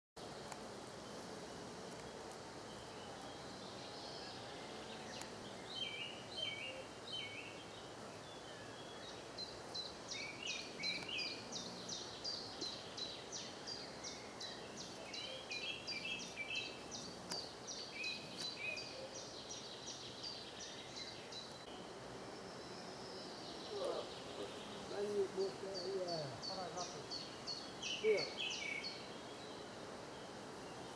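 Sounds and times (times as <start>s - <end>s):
small birds singing: 0.2s - 30.9s
steady outdoor hiss: 0.2s - 30.9s.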